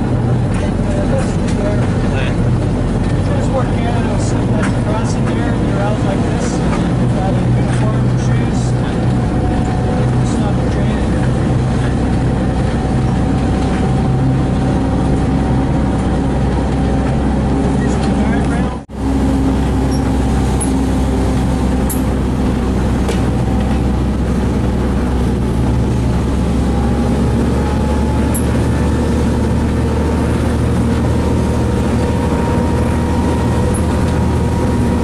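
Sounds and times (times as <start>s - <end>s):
diesel engine drone: 0.0s - 35.0s
wheel-on-rail noise: 0.0s - 35.0s.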